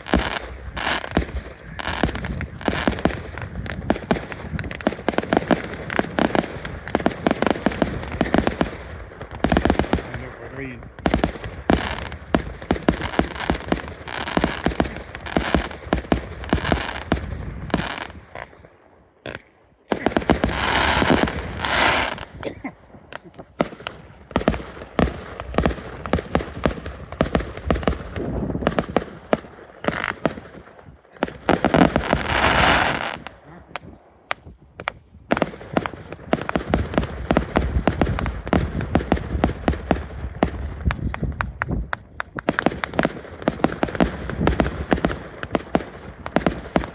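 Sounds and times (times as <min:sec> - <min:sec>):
dense crackling hiss: 0:00.0 - 0:46.9
fireworks bangs and pops: 0:00.0 - 0:46.9.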